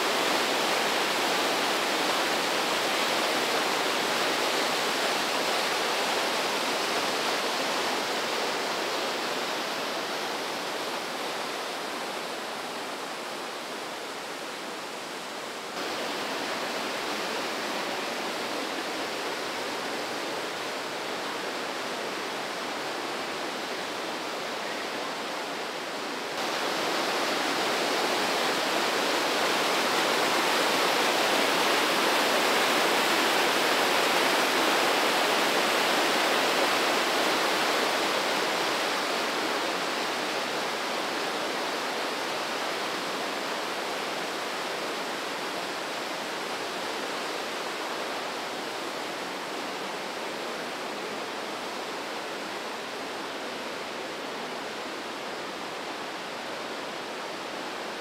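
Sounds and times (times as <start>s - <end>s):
whitewater rushing through gorge: 0.0s - 58.0s.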